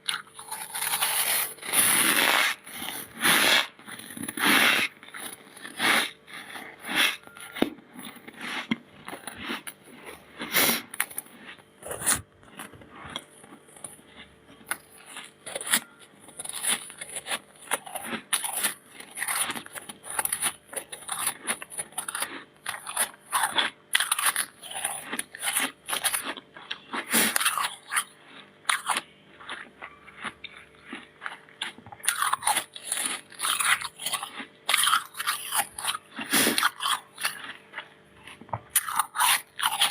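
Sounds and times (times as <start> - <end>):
frost being chewed with crunches: 0.0 - 39.9.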